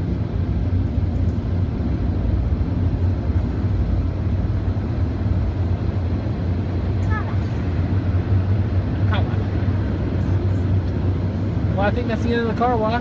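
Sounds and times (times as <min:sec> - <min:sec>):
car wash machinery rumbling: 0:00.0 - 0:13.0.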